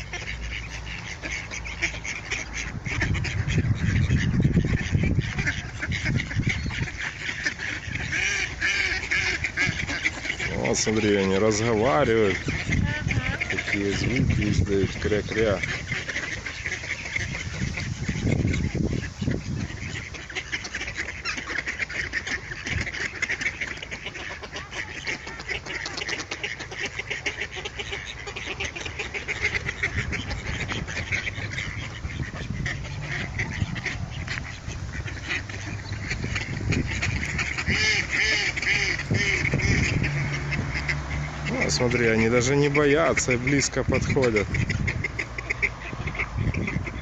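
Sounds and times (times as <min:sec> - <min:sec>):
ducks quacking: 0:00.0 - 0:47.0.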